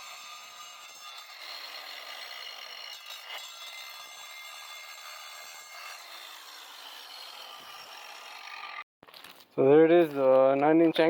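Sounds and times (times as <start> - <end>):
angle grinder cutting tile: 0.0 - 8.9.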